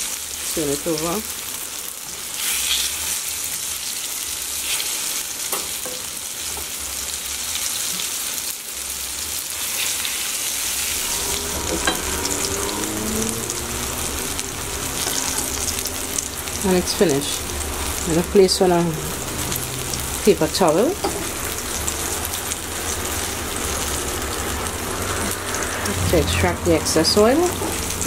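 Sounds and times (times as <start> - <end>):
food sizzling in hot oil: 0.0 - 28.0.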